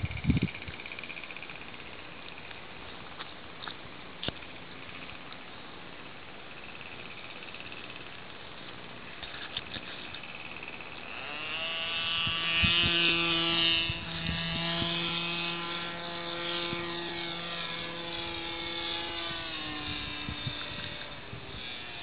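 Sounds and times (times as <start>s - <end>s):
model aircraft motor buzzing: 0.0s - 22.0s.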